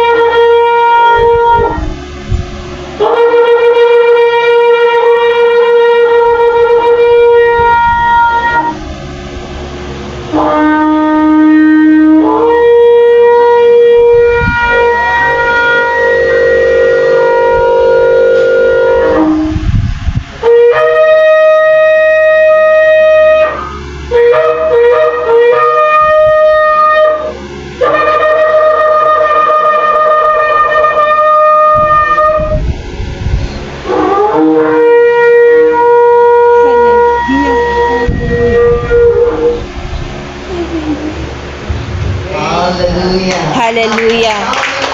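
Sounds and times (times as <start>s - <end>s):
shofar blasts: 0.0s - 2.2s, 2.9s - 40.4s.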